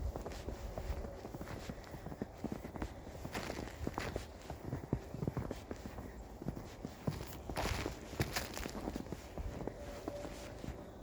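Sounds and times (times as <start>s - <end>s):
footsteps on snow and ice: 0.0s - 11.0s.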